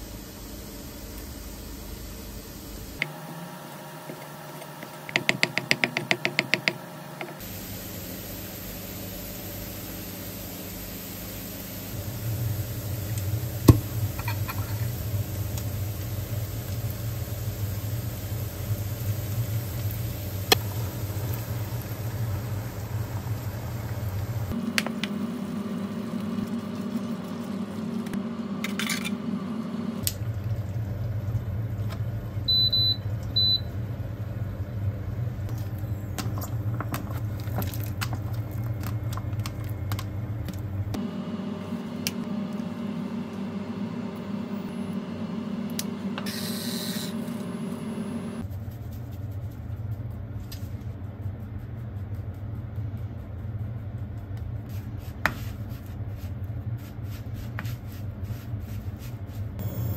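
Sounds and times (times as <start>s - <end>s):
cooktop hum: 0.0s - 59.9s.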